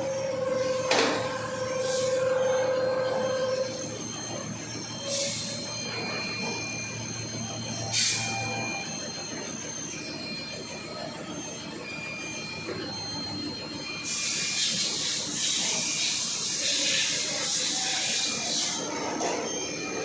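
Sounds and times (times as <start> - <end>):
machine whining: 0.0 - 20.0.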